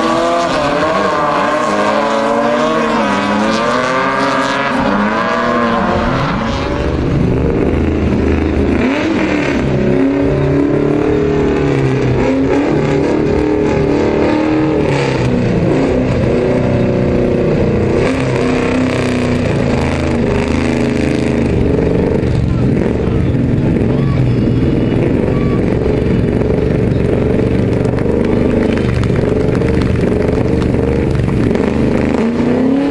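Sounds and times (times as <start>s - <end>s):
car engine revving hard: 0.0s - 32.9s.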